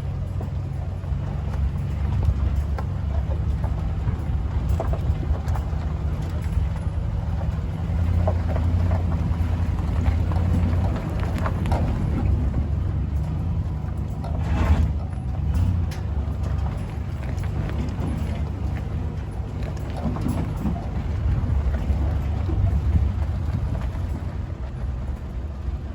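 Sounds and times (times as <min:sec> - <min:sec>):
knocks and clanks: 0:00.0 - 0:24.8
tractor engine running: 0:00.0 - 0:25.9.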